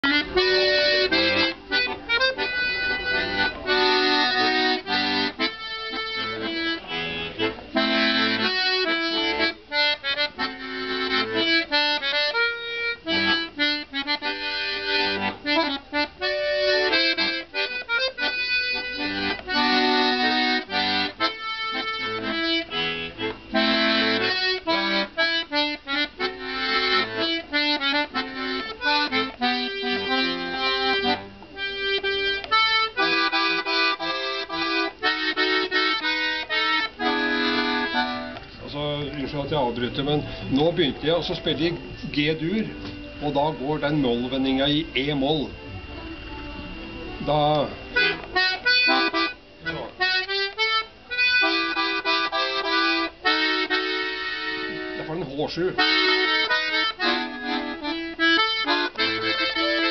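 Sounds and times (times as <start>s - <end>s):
button accordion playing: 0.0s - 59.9s.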